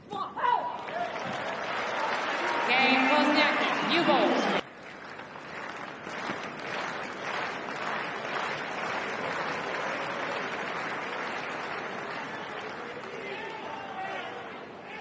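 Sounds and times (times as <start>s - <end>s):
crowd applauding: 0.8s - 14.4s.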